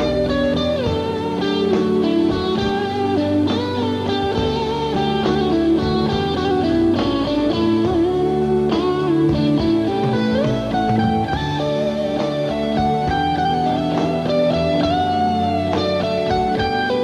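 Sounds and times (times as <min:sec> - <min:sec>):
electric guitar lead line: 0:00.0 - 0:17.0
live band playing: 0:00.0 - 0:17.0
steady drums: 0:00.0 - 0:17.0.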